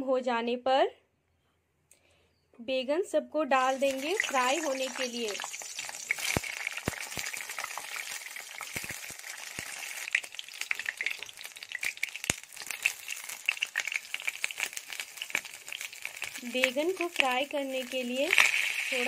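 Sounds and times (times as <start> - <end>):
vegetables sizzling in hot oil: 3.5 - 19.0.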